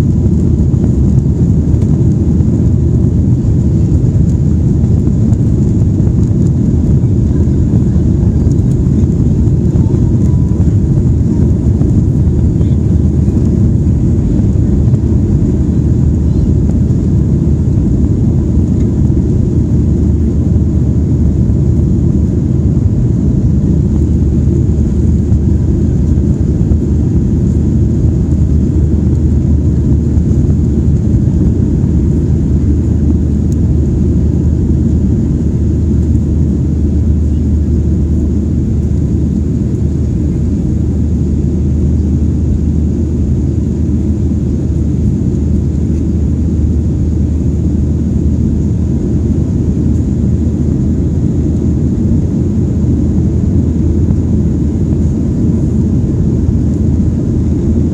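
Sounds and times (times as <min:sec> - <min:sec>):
jet engines rumbling: 0:00.0 - 0:57.9.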